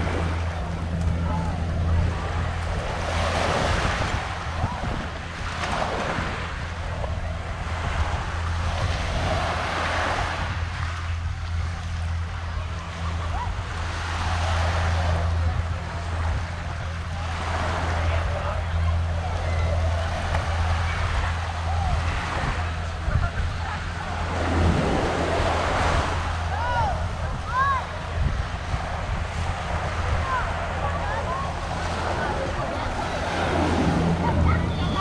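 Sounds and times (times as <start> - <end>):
small surf waves washing: 0.0 - 35.0
steady low hum: 0.0 - 35.0.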